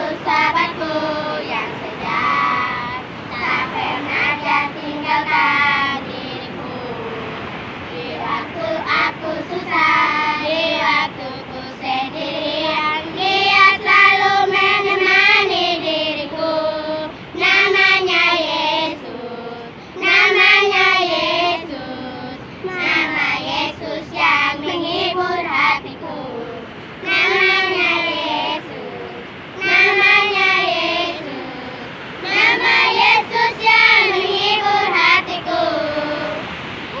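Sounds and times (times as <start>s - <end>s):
girls singing in unison: 0.0s - 37.0s.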